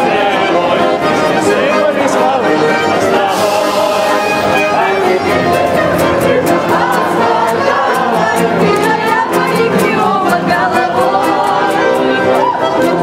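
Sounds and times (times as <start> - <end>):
group singing in chorus: 0.0 - 13.0
regular beat: 0.1 - 12.2.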